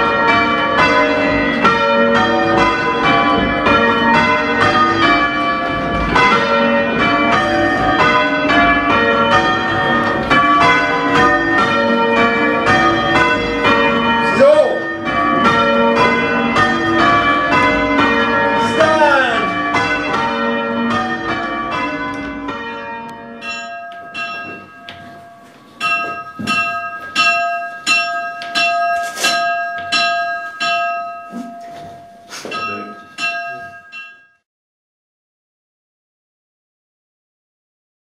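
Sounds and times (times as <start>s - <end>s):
church bells ringing: 0.0s - 34.4s.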